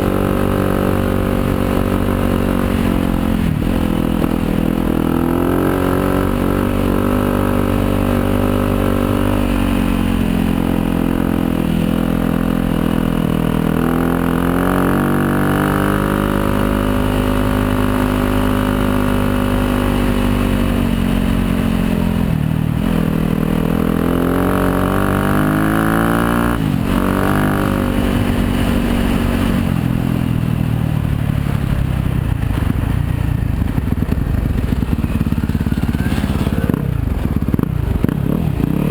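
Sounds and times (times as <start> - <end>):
dirt bike engine revving: 0.0 - 30.0, 34.6 - 38.9.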